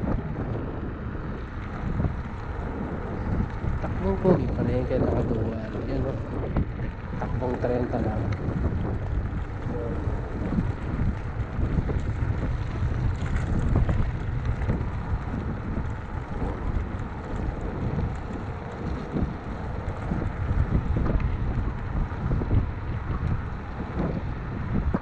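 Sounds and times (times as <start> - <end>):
low road rumble: 0.0 - 25.0
wind buffeting microphone: 0.0 - 25.0.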